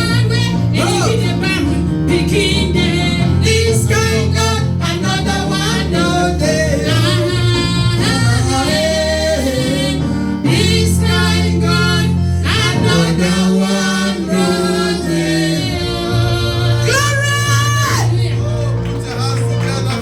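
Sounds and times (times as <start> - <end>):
bass line: 0.0 - 20.0
choir singing gospel: 0.0 - 20.0
instrumental accompaniment: 0.0 - 20.0.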